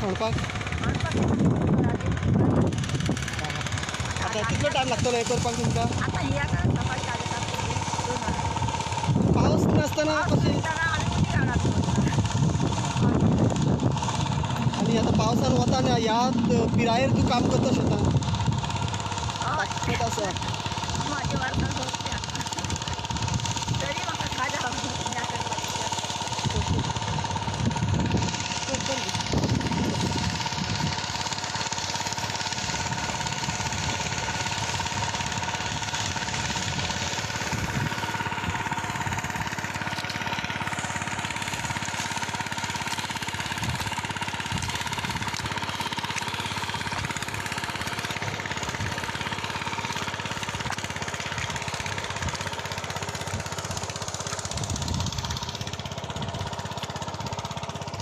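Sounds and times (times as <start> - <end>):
farm machine engine rattling drone: 0.0 - 58.0.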